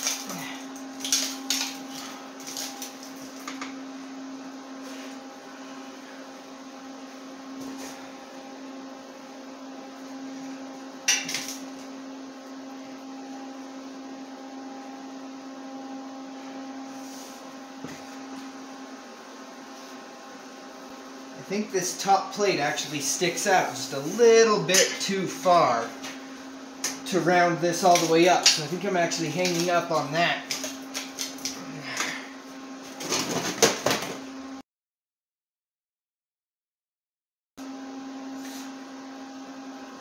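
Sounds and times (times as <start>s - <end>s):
electrical hum: 0.0s - 34.6s, 37.6s - 40.0s.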